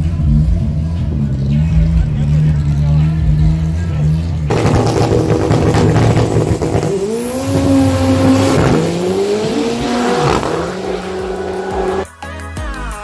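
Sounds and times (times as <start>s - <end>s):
car engine accelerating hard: 0.0s - 12.1s.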